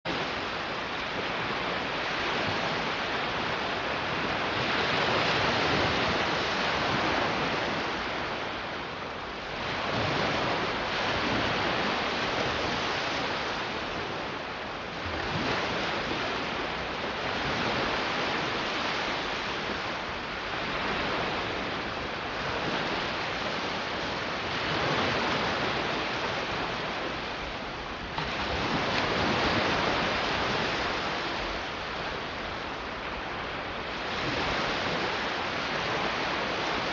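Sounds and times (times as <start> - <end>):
sea waves breaking on a beach: 0.1 - 36.9.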